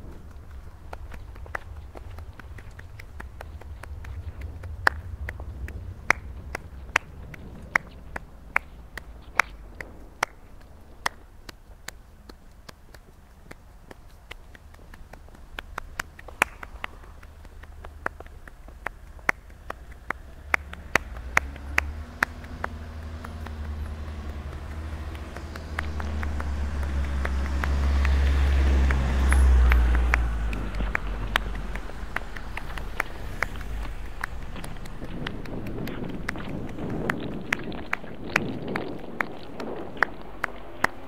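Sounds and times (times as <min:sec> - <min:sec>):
low rumble: 0:00.0 - 0:12.4, 0:14.4 - 0:41.0.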